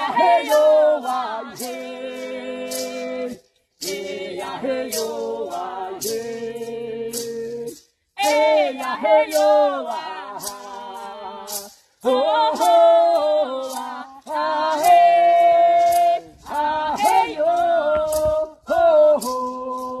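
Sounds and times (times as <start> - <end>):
unaccompanied prayer chant: 0.0 - 20.0.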